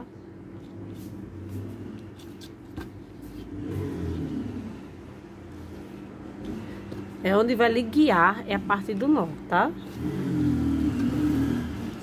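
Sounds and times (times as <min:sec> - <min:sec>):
low engine hum: 0:00.0 - 0:12.0
steady background hum: 0:00.0 - 0:12.0.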